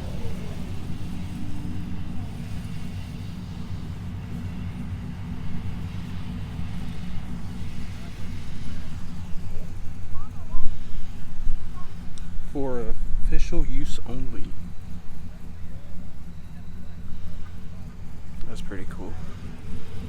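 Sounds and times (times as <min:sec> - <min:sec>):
faint voices: 0:00.0 - 0:20.0
vehicle engine idling: 0:00.0 - 0:20.0.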